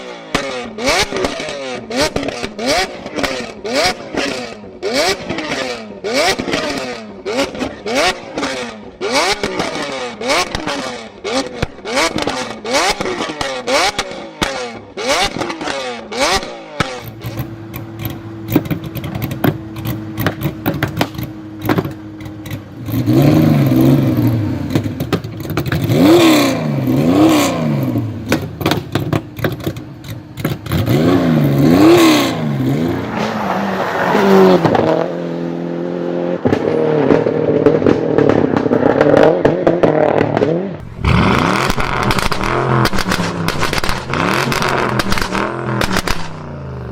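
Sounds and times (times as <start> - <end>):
car engine revving: 0.0 - 46.9
exhaust pops and crackles: 0.3 - 4.4, 6.2 - 32.2, 36.4 - 46.9.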